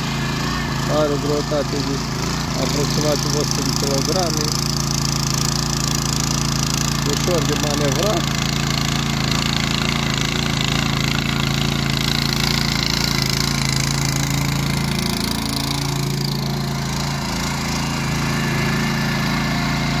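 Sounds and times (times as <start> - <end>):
tiller engine running under load: 0.0 - 20.0
tines churning soil: 0.0 - 20.0.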